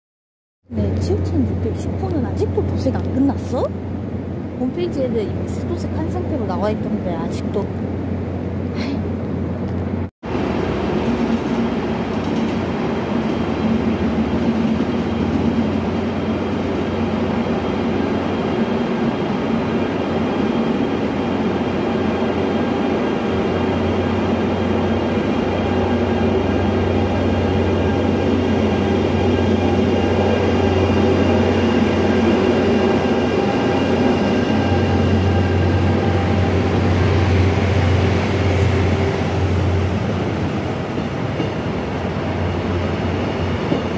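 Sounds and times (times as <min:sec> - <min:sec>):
locomotive running rumble: 0:00.7 - 0:43.9.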